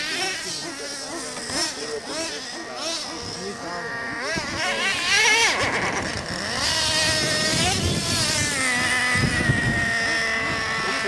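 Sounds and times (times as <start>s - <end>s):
small nitro engines whining: 0.0s - 11.0s.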